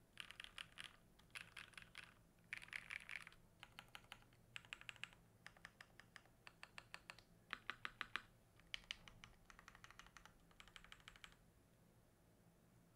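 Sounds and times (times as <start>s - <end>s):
mechanical keyboard typing: 0.2s - 11.4s.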